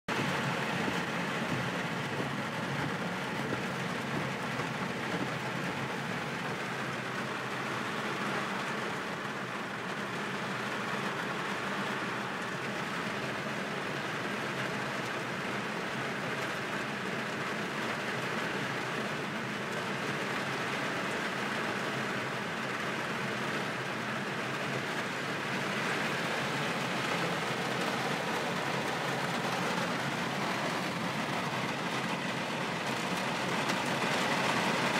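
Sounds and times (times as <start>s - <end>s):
tyres on wet road: 0.0s - 34.9s
rain on car: 0.1s - 34.9s.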